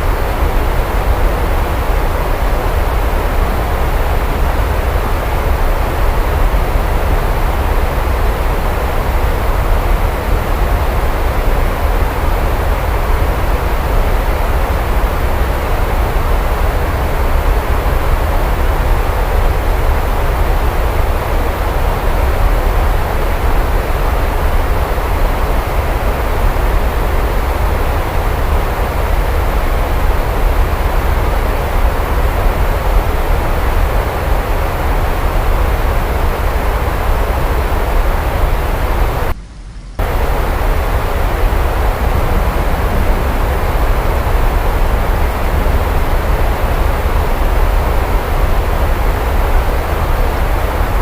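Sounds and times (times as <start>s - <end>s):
heavy rain hiss: 0.0s - 51.0s.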